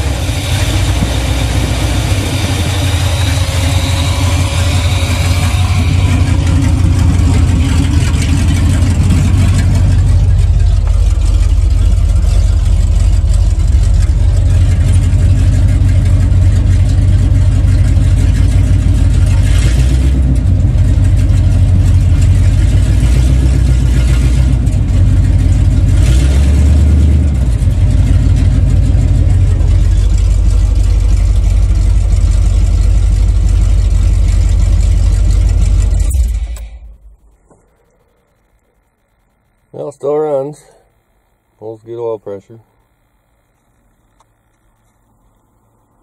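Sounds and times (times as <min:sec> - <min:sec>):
loud engine running: 0:00.0 - 0:37.4.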